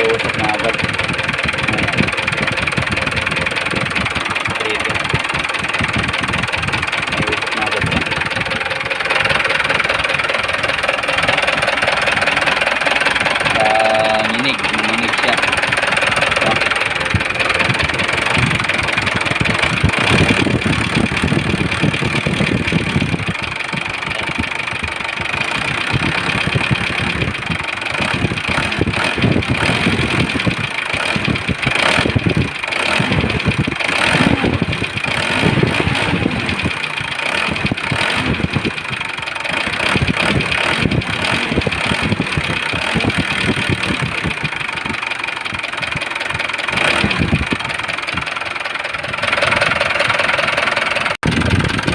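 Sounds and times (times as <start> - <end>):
diesel engine idling with knock: 0.0 - 51.9.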